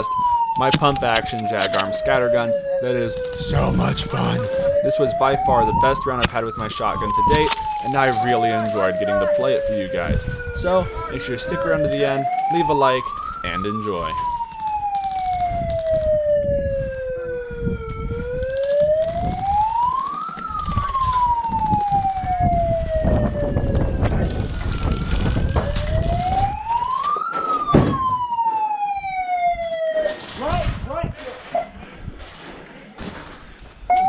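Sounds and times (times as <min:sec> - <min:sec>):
siren wailing: 0:00.0 - 0:30.4.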